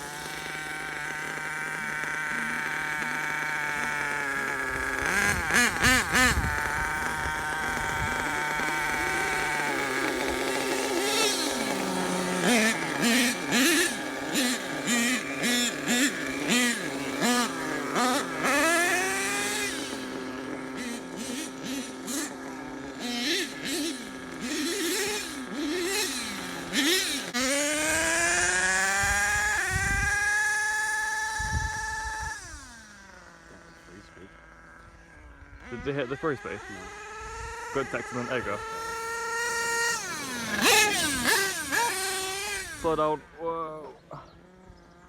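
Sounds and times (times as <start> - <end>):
small nitro engine revving: 0.0 - 45.0.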